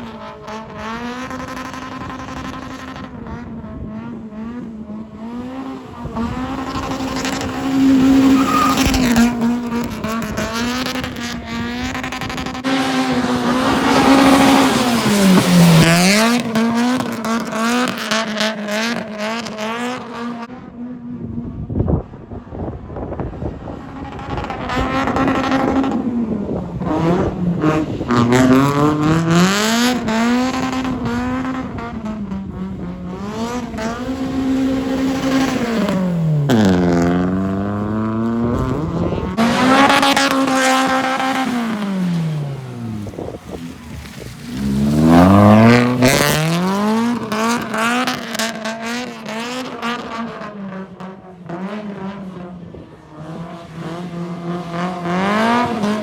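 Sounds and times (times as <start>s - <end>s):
car engine revving hard: 0.0s - 20.7s, 23.2s - 56.0s.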